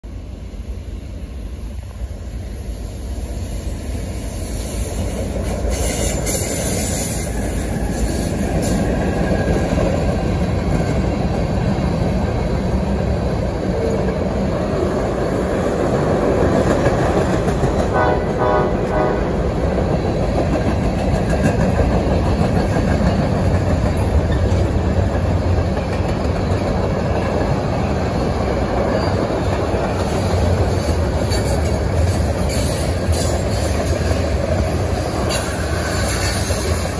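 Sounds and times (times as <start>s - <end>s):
freight train rumbling and clattering: 0.0s - 36.9s.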